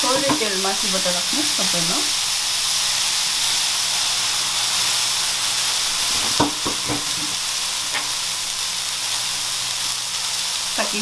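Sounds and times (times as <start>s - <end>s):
kebabs sizzling in oil: 0.0s - 11.0s.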